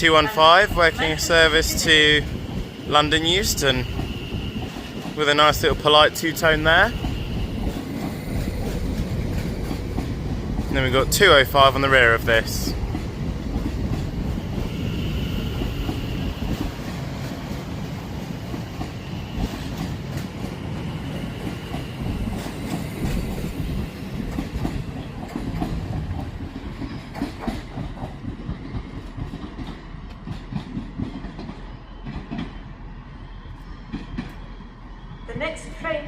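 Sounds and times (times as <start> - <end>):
train wheels clicking over rail joints: 2.2 - 32.7.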